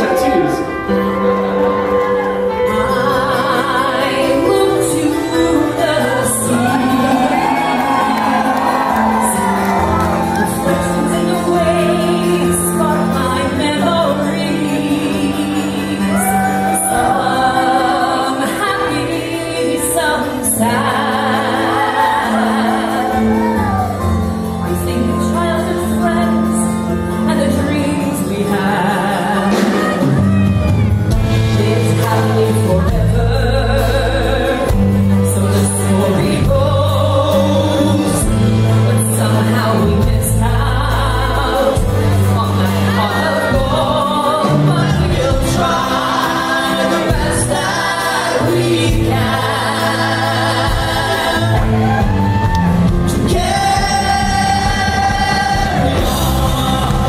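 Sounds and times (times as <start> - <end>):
live band with singing: 0.0 - 57.0.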